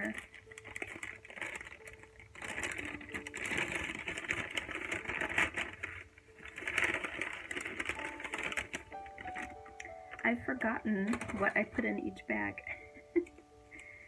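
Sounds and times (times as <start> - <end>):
paper bag rustling: 0.0 - 12.1.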